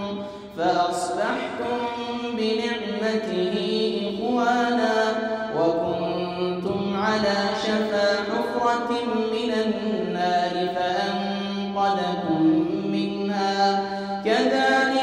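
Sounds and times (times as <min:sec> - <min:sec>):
man reciting in song: 0:00.0 - 0:15.0.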